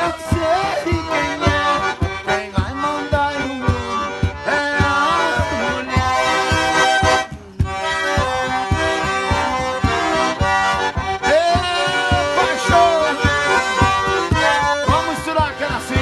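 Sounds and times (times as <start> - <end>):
cajon beat: 0.0 - 16.0
concertina playing lively tune: 0.0 - 16.0.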